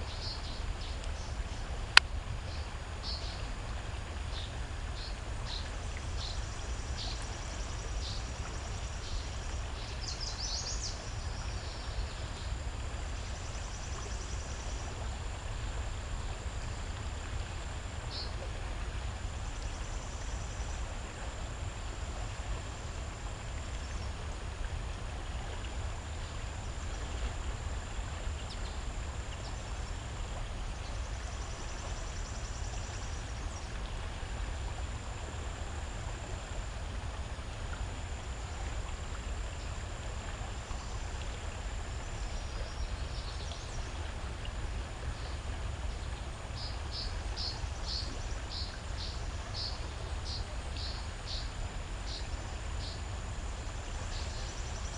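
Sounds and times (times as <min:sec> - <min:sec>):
running water: 0:00.0 - 0:54.9.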